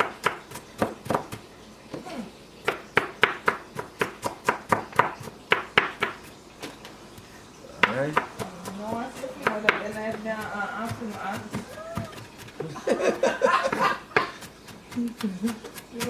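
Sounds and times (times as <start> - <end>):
knife chopping on cutting board: 0.0 - 1.4, 2.7 - 6.3, 7.8 - 16.0.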